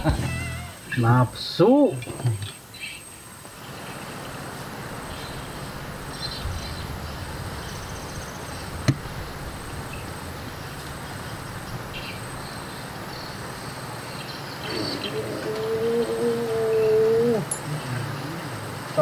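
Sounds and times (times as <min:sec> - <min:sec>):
insects chirping: 0:00.0 - 0:19.0
steady hiss: 0:00.0 - 0:19.0.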